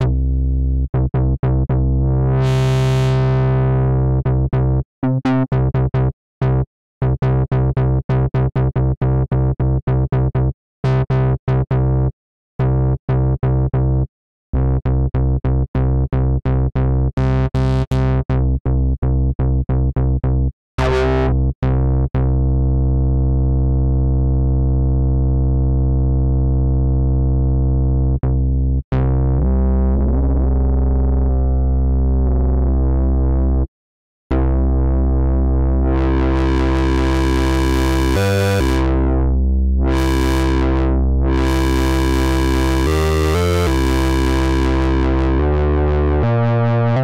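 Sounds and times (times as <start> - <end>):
bass synthesizer notes: 0.0 - 33.7, 34.3 - 47.0.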